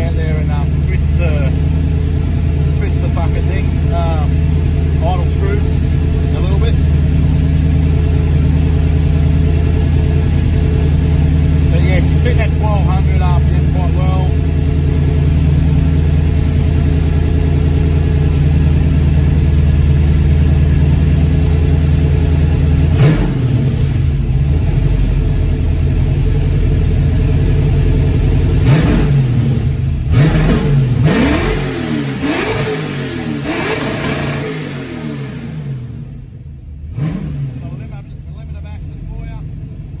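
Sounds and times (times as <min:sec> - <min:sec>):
car engine idling: 0:00.0 - 0:40.0
engine revving: 0:00.0 - 0:40.0.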